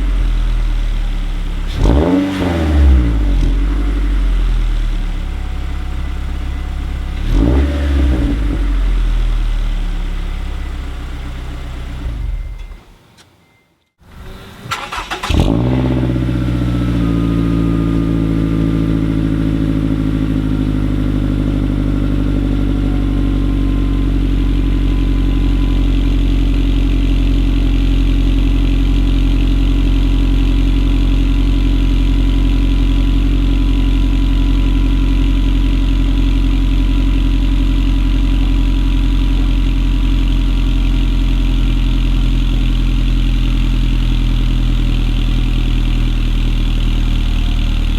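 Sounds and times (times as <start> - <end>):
car engine starting and idling: 0.0 - 13.5, 14.1 - 47.9.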